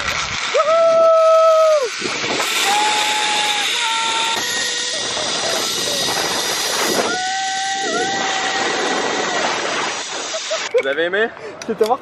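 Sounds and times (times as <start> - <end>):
wind rushing: 0.0 - 10.5
zipline pulleys running on cable: 0.0 - 10.8.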